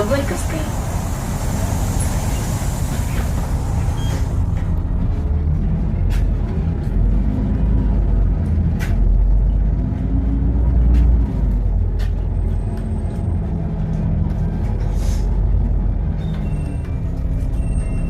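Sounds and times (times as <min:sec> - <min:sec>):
bus engine drone: 0:00.0 - 0:18.0
road rumble: 0:00.0 - 0:18.0.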